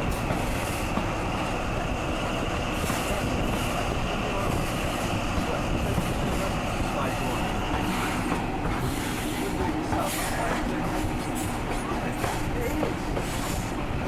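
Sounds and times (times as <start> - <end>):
train wheels rumbling and rattling: 0.0 - 14.0.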